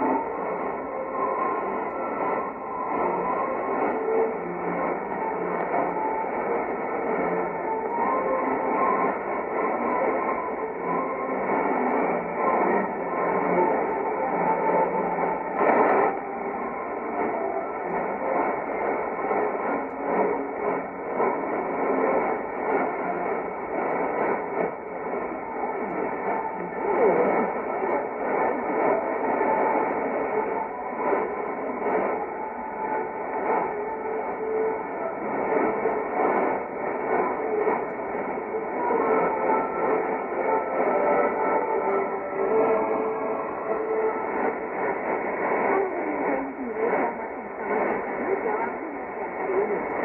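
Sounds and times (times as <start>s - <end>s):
faint radio programme audio: 0.0s - 50.0s
radio static and hiss: 0.0s - 50.0s.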